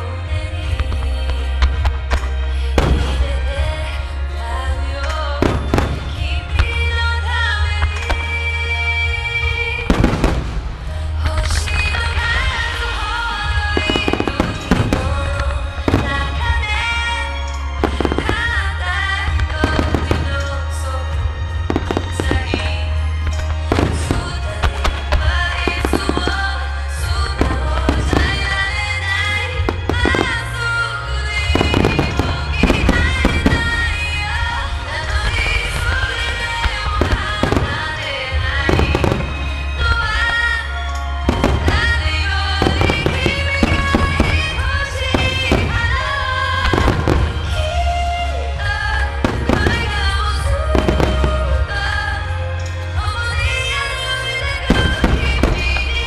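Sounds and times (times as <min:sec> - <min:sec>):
fireworks bangs and crackles: 0:00.0 - 0:56.0
music: 0:00.0 - 0:56.0.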